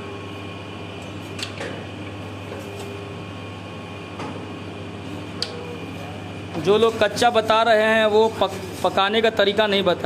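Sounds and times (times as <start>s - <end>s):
machine mechanical hum: 0.0s - 10.0s.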